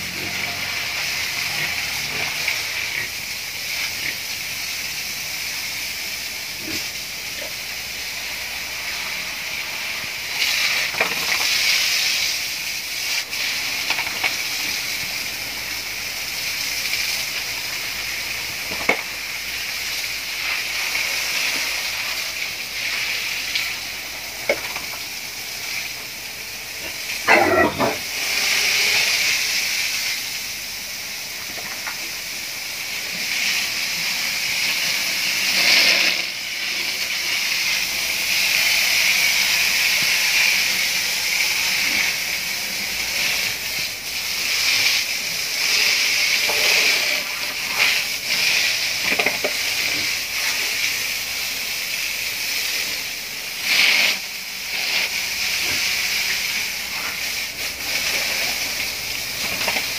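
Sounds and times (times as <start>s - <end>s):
hose spraying water on concrete: 0.0s - 59.9s.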